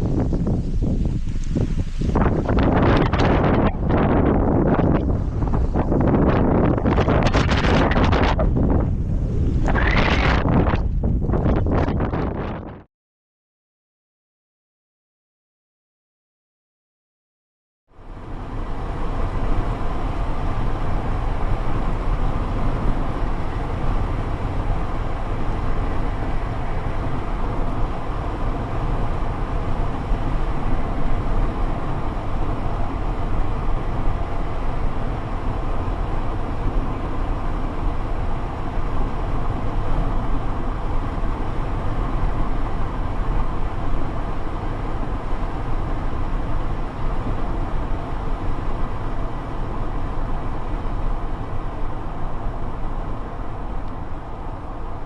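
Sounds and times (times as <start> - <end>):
wind gusting over microphone: 0.0 - 12.9, 18.0 - 55.0.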